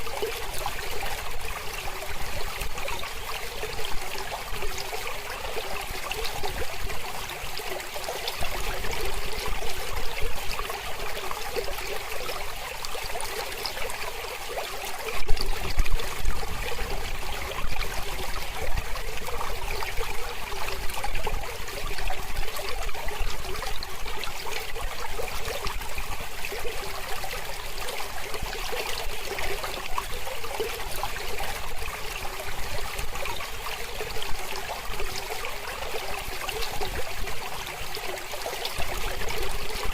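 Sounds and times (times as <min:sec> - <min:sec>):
mountain river rushing and trickling: 0:00.0 - 0:39.9.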